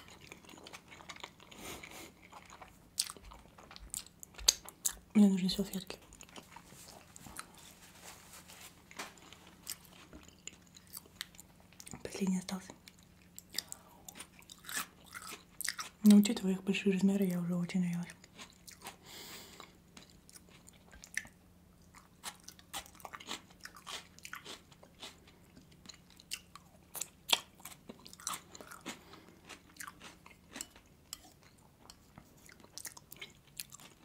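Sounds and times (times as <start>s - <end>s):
person chewing food: 0.0s - 5.1s, 5.8s - 7.9s, 8.7s - 12.0s, 12.7s - 16.0s, 18.1s - 34.0s.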